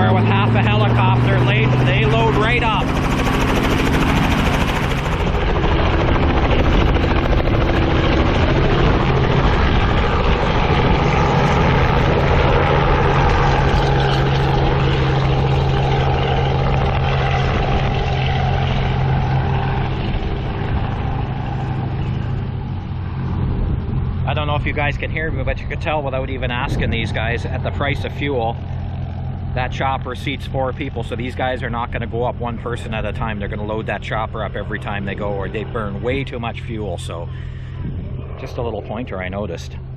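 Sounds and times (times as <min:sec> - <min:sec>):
helicopter engine drone: 0:00.0 - 0:39.9
helicopter rotor chop: 0:00.0 - 0:39.9.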